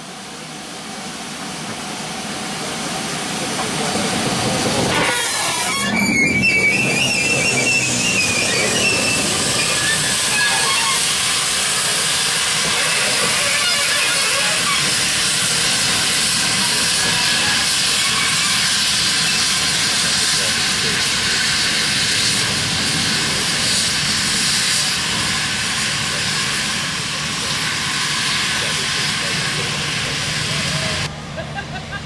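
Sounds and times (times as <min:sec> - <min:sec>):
steam engine hissing: 0:00.0 - 0:31.1.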